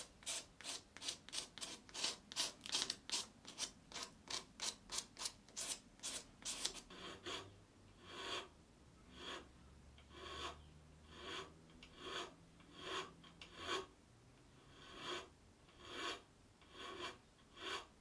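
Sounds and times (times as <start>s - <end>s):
abrasive tool scraping wood: 0.0s - 8.5s, 9.1s - 13.9s, 14.6s - 18.0s.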